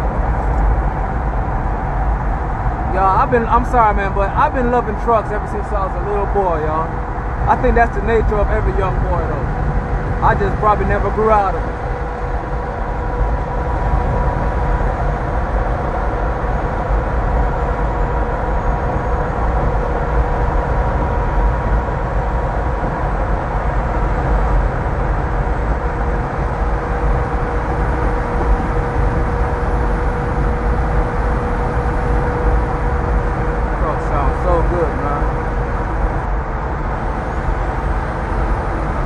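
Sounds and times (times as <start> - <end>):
road noise: 0.0 - 39.0
steady hum: 0.0 - 39.0
truck engine and tyres rumble: 0.0 - 39.0.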